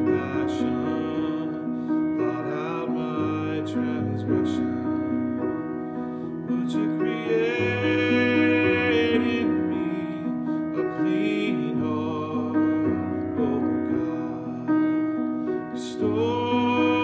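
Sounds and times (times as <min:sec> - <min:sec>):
grand piano playing hymn: 0:00.0 - 0:17.0.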